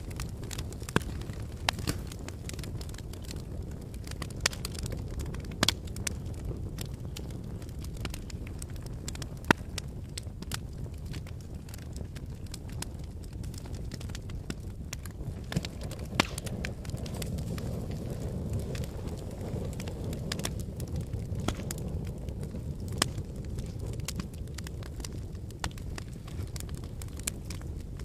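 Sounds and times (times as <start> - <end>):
fire crackling and popping: 0.0 - 28.0
fire rumbling in fireplace: 0.0 - 28.0.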